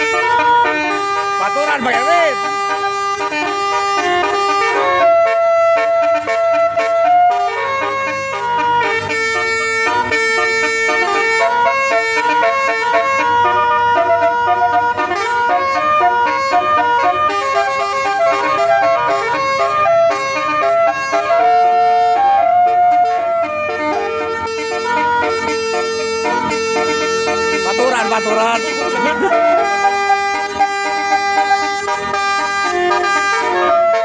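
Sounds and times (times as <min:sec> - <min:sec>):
musical bus air horn tune: 0:00.0 - 0:34.0.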